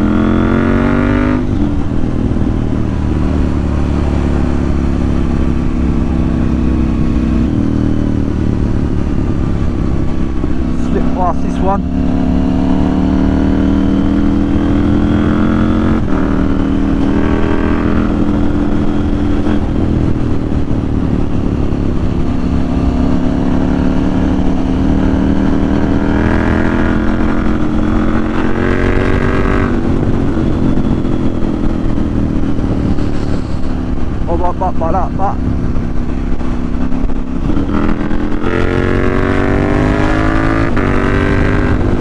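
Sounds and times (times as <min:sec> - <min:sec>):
motorcycle engine revving: 0:00.0 - 0:42.0
wind noise: 0:00.0 - 0:42.0.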